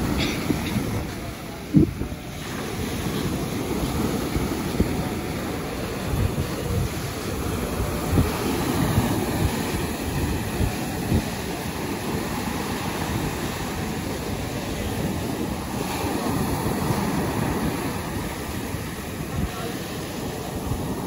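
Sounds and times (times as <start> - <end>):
surf washing up a beach: 0.0 - 21.0
wind buffeting microphone: 0.0 - 21.0.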